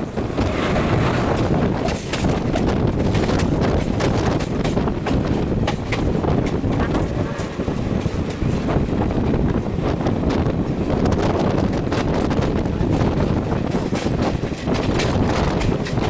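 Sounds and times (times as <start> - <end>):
train wheels clattering over rail joints: 0.0 - 16.0
wind rushing on microphone: 0.0 - 16.0.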